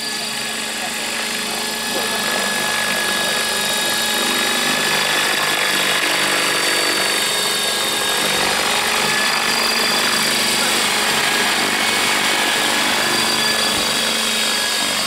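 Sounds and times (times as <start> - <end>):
model helicopter whining: 0.0 - 15.0.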